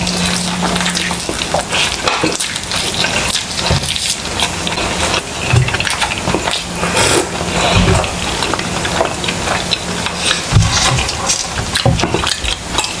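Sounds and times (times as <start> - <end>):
lip-smacking: 0.0 - 13.0
wet chewing: 0.0 - 13.0
crackly mouth clicks: 0.1 - 13.0.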